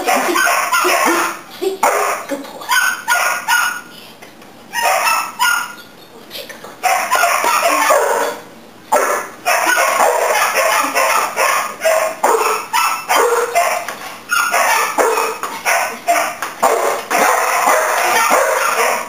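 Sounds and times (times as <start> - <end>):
dog barking: 0.0 - 3.9, 4.7 - 5.8, 6.8 - 19.0.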